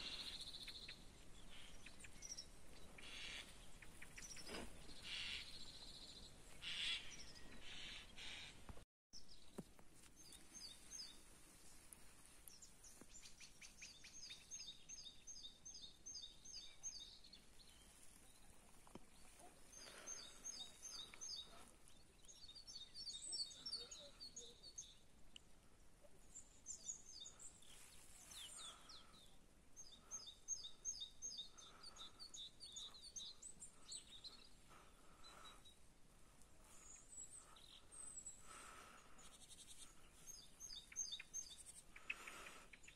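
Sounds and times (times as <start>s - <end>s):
songbird song: 0.0s - 42.9s.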